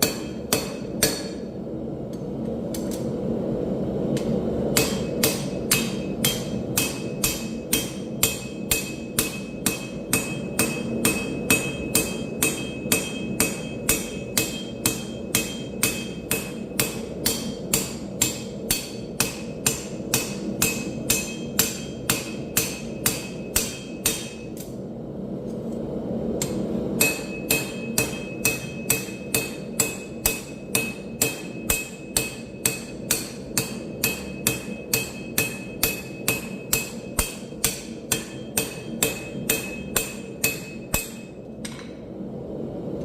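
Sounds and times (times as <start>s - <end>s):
hammer striking steel on anvil: 0.0s - 3.1s, 4.1s - 24.8s, 26.4s - 42.1s
steady low hum: 0.0s - 43.0s.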